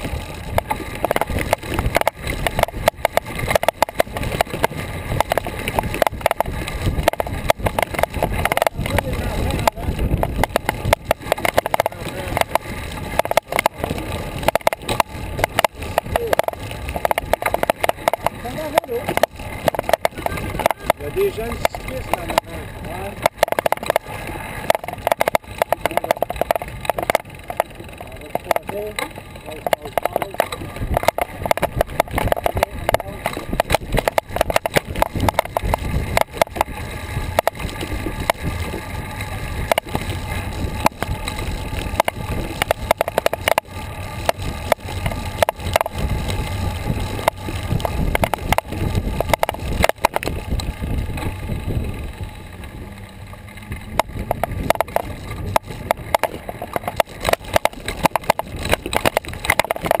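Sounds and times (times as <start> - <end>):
bike rattling over pavement: 0.0 - 60.0
wind rumbling on microphone: 0.0 - 60.0.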